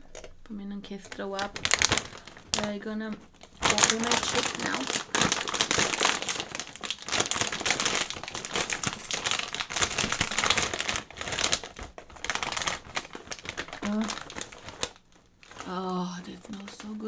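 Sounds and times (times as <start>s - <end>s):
plastic snack bag crinkling: 0.0s - 17.0s.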